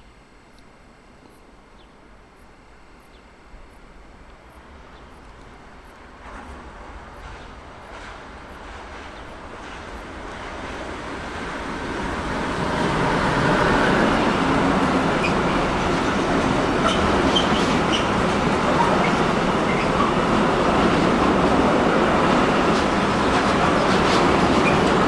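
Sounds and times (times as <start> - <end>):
train passing: 2.4 - 25.0.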